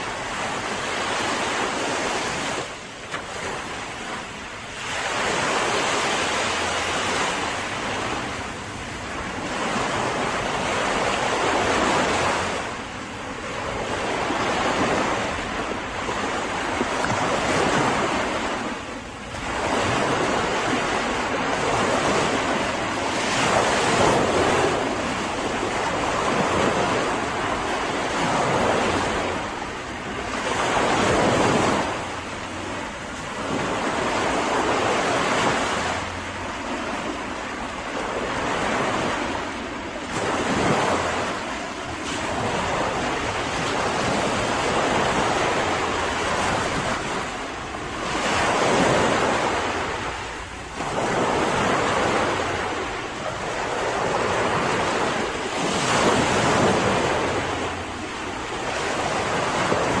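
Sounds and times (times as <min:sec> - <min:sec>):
sea waves breaking on a beach: 0:00.0 - 1:00.0.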